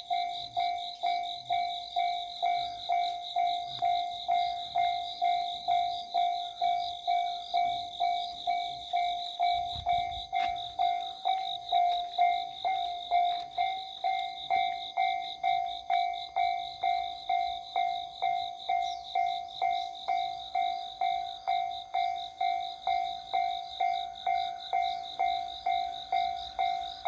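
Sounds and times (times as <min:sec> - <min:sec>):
level-crossing warning bell ringing: 0:00.0 - 0:27.0.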